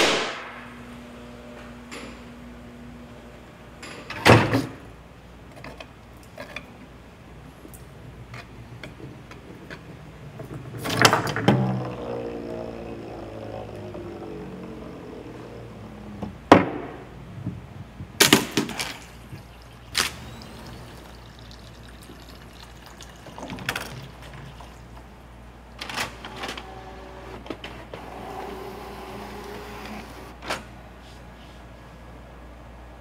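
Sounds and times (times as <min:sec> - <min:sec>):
faint steady whir: 0:00.3 - 0:18.2, 0:19.1 - 0:30.4.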